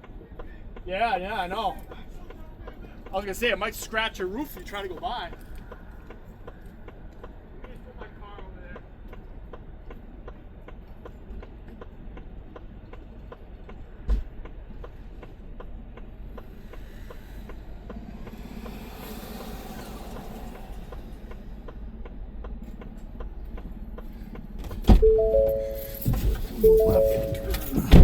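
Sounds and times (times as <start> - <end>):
vehicle engine low rumble: 0.0 - 28.0.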